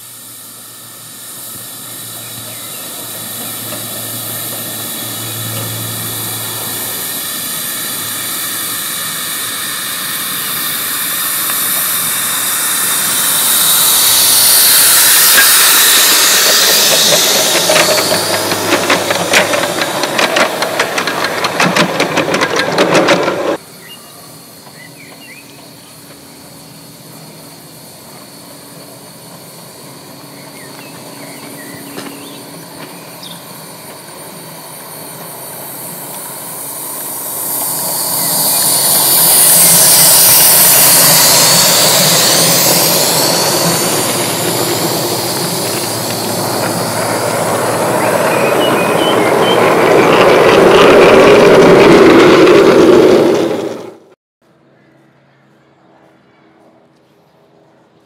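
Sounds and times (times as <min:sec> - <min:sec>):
sharp exhaust puffs: 0:00.0 - 0:23.7, 0:25.6 - 0:53.8
model steam locomotive hissing: 0:00.0 - 0:54.1.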